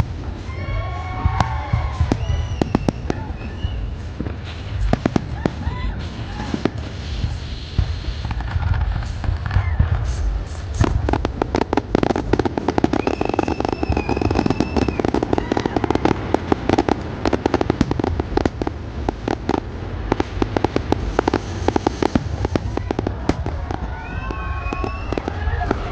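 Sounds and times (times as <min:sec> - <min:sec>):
high firework whistle: 0:00.0 - 0:18.6, 0:19.2 - 0:25.9
fireworks bangs and crackling: 0:00.0 - 0:25.9.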